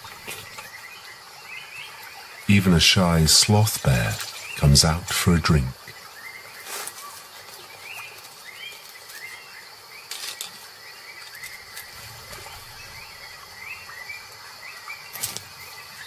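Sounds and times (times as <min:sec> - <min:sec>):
insect hiss: 0:00.0 - 0:16.0
small birds chirping: 0:00.0 - 0:16.0.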